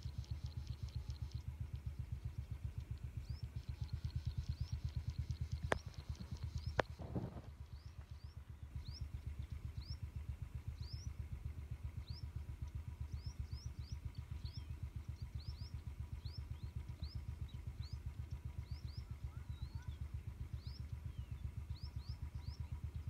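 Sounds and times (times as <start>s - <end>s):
birds chirping: 0.0s - 23.0s
motorcycle engine chugging: 0.0s - 23.0s.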